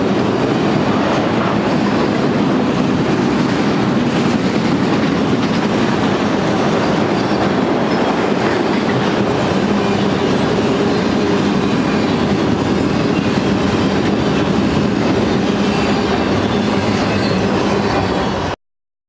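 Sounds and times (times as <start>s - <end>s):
freight train wheels rolling on rails: 0.0s - 18.6s.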